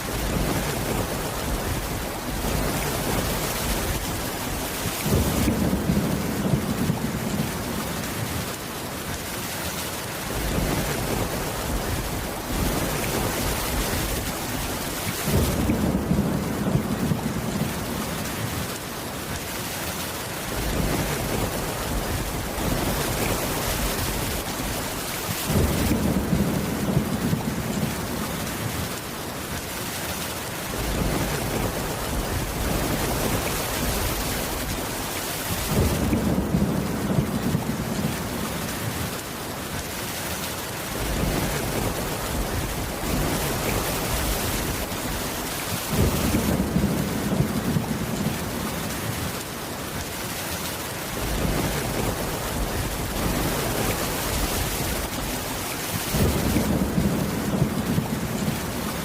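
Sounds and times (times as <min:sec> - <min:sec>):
low rumble of thunder: 0:00.0 - 0:08.6, 0:10.3 - 0:18.8, 0:20.4 - 0:29.0, 0:30.7 - 0:39.3, 0:40.9 - 0:49.4, 0:51.1 - 0:59.0
steady rain: 0:00.0 - 0:59.0.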